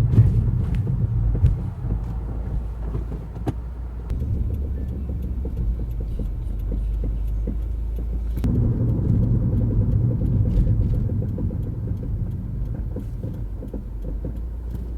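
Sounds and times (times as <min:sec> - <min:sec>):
car brakes rumbling and clattering: 0:00.0 - 0:14.9.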